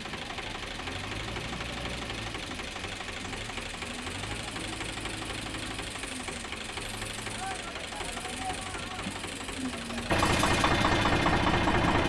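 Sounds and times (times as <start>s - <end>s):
backhoe loader working: 0.0s - 12.0s
tractor engine idling: 0.0s - 12.0s.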